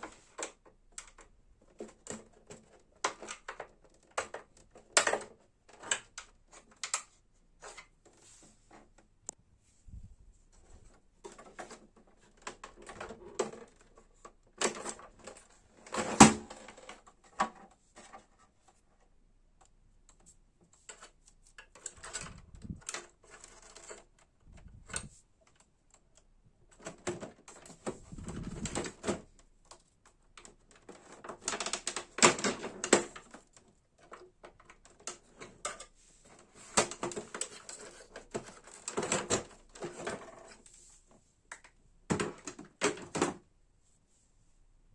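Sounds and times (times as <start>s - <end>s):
plastic printer parts clicking: 0.0s - 7.9s, 10.8s - 18.4s, 19.6s - 40.6s.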